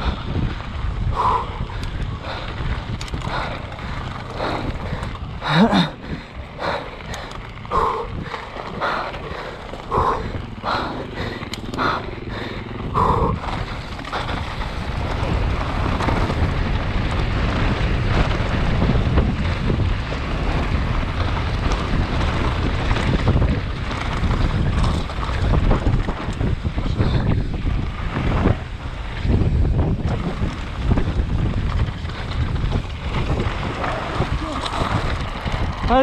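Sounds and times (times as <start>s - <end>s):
bike tyres rattling over stones: 0.0s - 36.0s
wind buffeting microphone: 0.0s - 36.0s.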